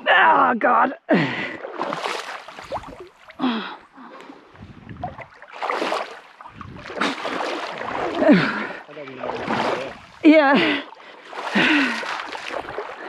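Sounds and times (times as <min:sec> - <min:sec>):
legs squelching through mud: 0:01.5 - 0:03.5, 0:04.2 - 0:13.0.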